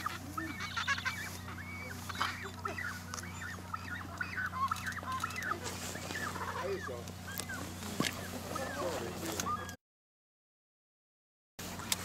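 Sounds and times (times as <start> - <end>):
low steady hum: 0.0 - 9.8
penguins calling: 0.0 - 9.8.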